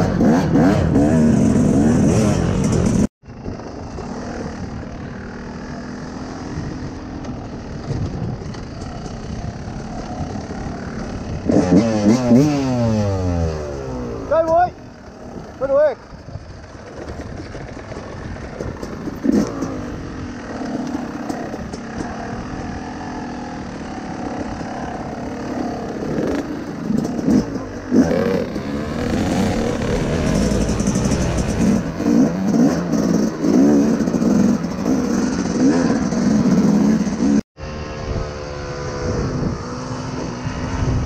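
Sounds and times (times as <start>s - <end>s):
dirt bike engine revving: 0.0s - 15.7s, 18.2s - 41.0s.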